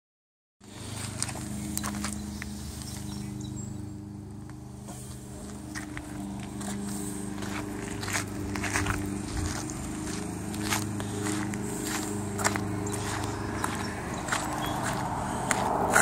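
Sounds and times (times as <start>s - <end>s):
footsteps on gravel: 0.6s - 3.4s, 4.4s - 16.0s
car engine idling: 0.6s - 16.0s.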